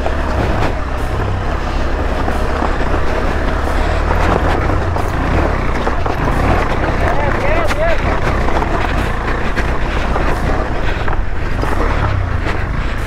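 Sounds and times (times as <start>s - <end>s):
motorcycle engine running: 0.0s - 13.0s
off-road trail noise: 0.0s - 13.0s.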